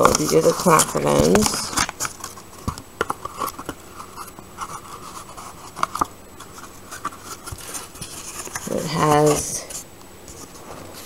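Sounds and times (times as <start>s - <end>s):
plastic and paper scraping and rustling: 0.0s - 11.0s.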